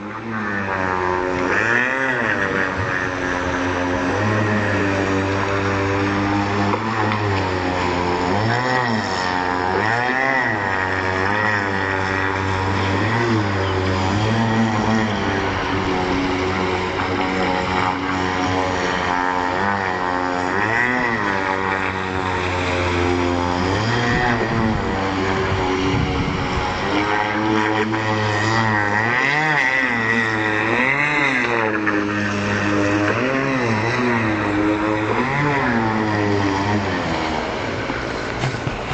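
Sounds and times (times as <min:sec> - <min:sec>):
model speedboat engine buzzing: 0:00.0 - 0:38.9.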